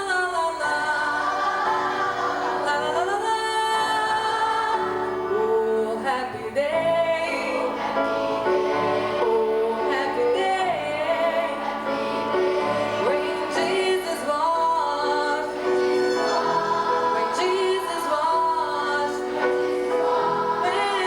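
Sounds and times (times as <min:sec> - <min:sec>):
choir singing: 0:00.0 - 0:21.0
musical accompaniment: 0:00.0 - 0:21.0.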